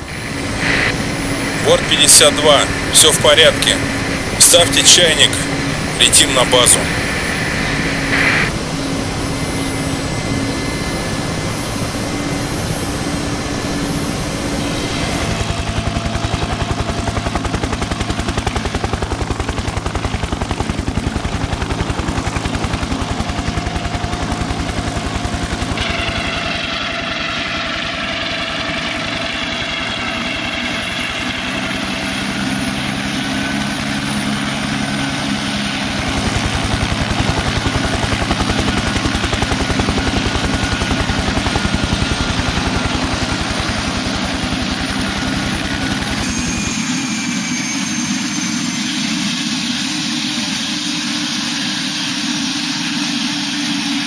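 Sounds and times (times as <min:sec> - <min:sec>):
helicopter engine whine: 0:00.0 - 0:54.0
helicopter rotor beating: 0:00.0 - 0:54.0.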